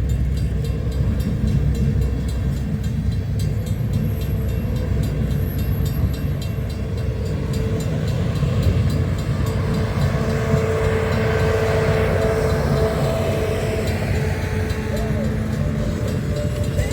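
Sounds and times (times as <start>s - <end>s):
train rumbling past: 0.0s - 16.9s.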